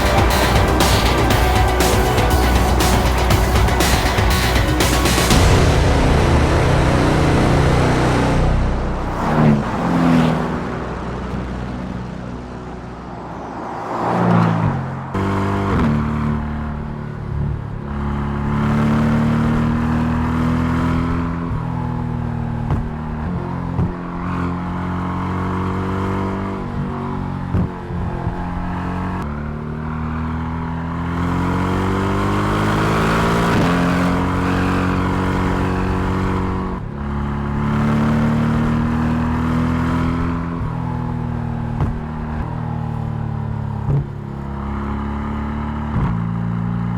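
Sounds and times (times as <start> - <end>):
car engine revving: 0.0 - 29.2, 29.9 - 46.9.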